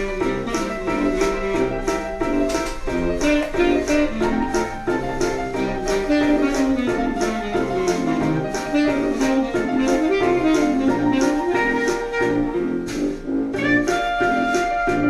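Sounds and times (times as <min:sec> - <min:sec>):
jazzy instrumental music: 0:00.0 - 0:15.0.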